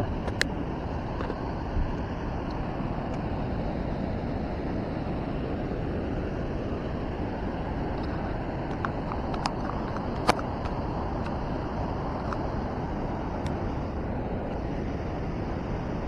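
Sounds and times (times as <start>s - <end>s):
fast-flowing river water rushing: 0.0s - 16.0s.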